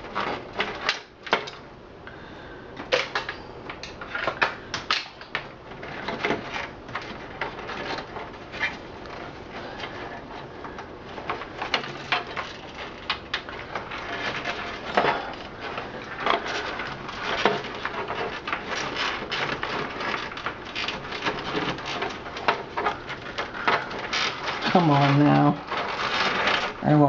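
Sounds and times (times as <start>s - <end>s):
cables and plastic connectors clicking: 2.8s - 26.8s.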